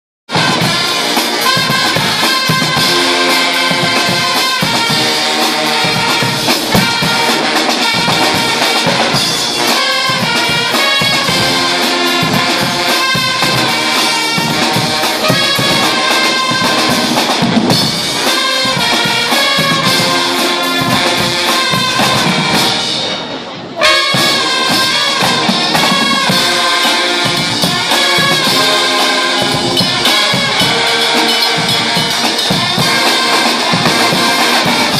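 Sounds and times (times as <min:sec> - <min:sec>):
brass band playing: 0:00.3 - 0:34.9
marching drums and cymbals: 0:00.3 - 0:34.9.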